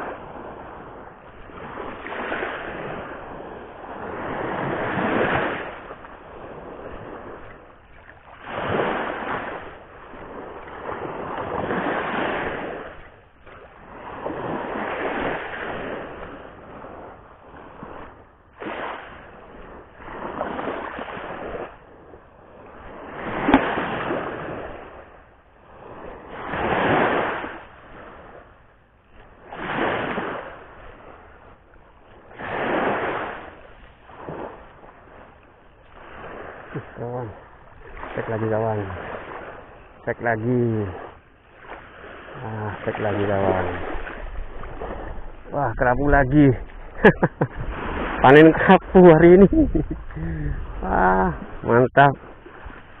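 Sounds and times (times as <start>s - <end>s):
surf breaking on shore: 0.0s - 53.0s.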